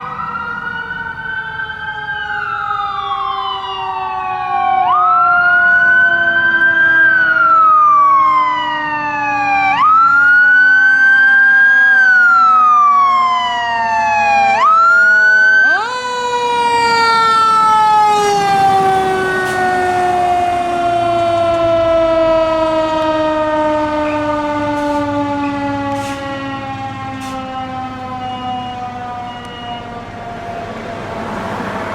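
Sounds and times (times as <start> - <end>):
falling siren tone: 0.0 - 31.9
wailing siren: 0.0 - 31.9.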